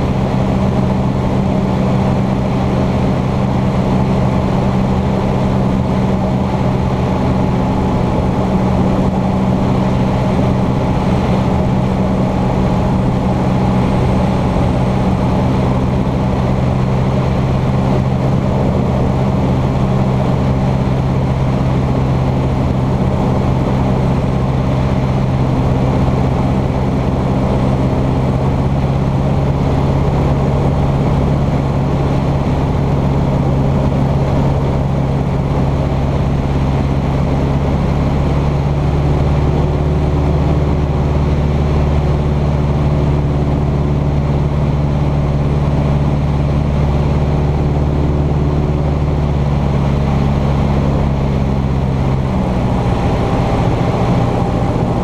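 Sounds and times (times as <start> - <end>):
airplane engine and propeller: 0.0 - 55.0.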